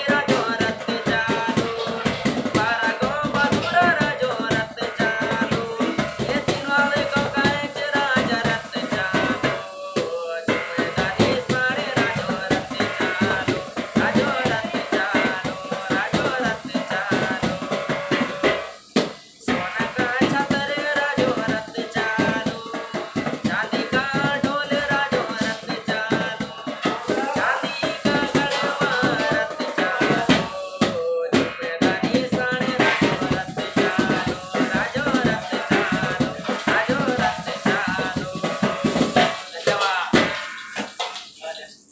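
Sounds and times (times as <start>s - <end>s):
man singing: 0.0s - 18.6s, 19.4s - 40.4s
music with steady drum beat: 0.0s - 41.7s.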